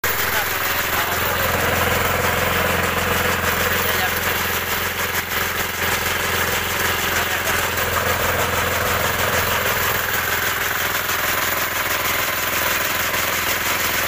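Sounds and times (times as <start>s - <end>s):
small petrol engine running: 0.0s - 14.0s.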